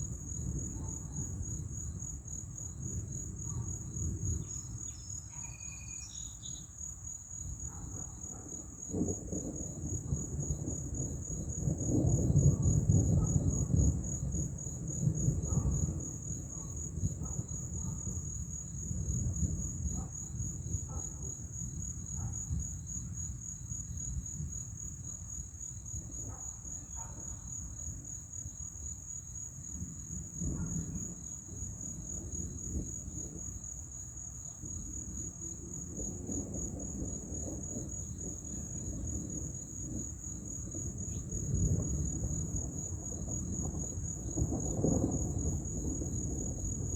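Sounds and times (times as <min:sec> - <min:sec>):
low rumble of thunder: 0:00.0 - 0:46.9
night insects trilling: 0:00.0 - 0:46.9.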